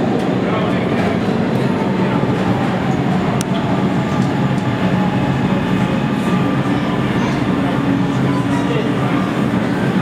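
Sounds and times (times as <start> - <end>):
streetcar humming and rumbling: 0.0 - 10.0.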